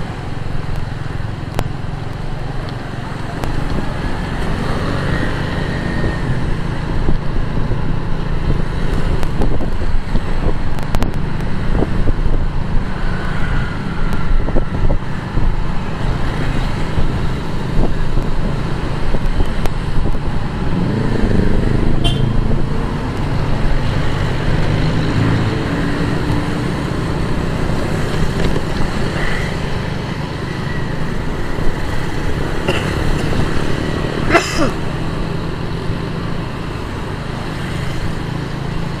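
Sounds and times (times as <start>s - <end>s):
passing vehicle engines: 0.0s - 39.0s.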